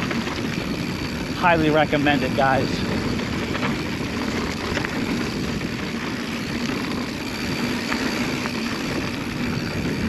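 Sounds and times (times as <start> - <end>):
bike clicks and rattles: 0.0 - 10.0
tyres rolling on dirt: 0.0 - 10.0
wind rushing over microphone: 0.0 - 10.0.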